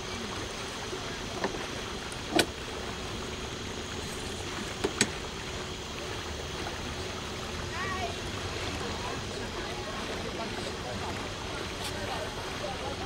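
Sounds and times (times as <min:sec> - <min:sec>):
boat motor hum: 0:00.0 - 0:13.0
water rushing along hull: 0:00.0 - 0:13.0.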